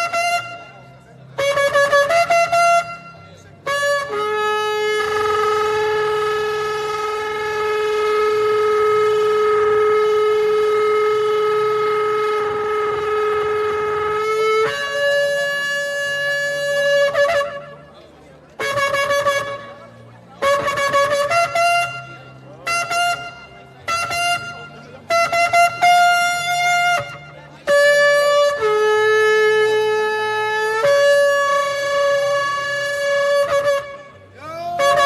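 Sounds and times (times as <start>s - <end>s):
shofar blasts: 0.0s - 0.7s, 1.4s - 17.8s, 20.4s - 35.0s.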